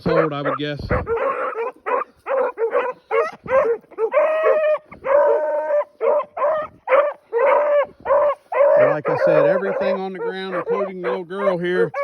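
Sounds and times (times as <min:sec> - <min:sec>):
hounds barking and bawling: 0:00.0 - 0:12.0.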